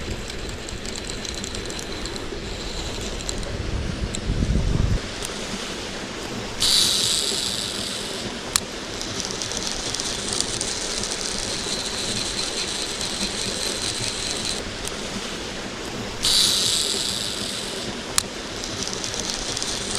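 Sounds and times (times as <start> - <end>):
fishing reel click: 0.0 - 3.5, 6.5 - 15.3, 16.2 - 19.9
reel being wound in: 0.0 - 4.3, 5.0 - 19.9
fishing reel spool whirring: 0.0 - 19.9
mountain stream rushing: 0.0 - 19.9.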